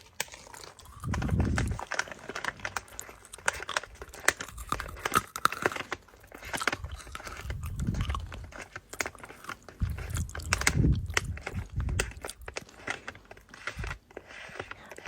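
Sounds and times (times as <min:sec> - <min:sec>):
crisp clicks and crunches: 0:00.0 - 0:15.0.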